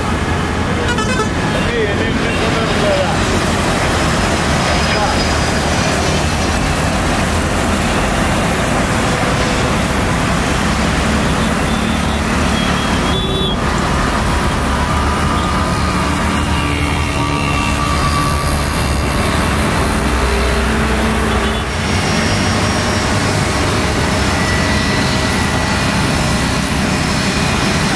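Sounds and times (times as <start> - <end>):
engine and traffic noise: 0.0 - 27.9.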